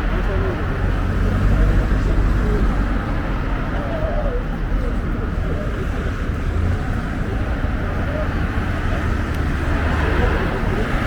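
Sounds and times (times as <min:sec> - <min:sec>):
crowd chatter: 0:00.0 - 0:11.0
road traffic rumble: 0:00.0 - 0:11.0.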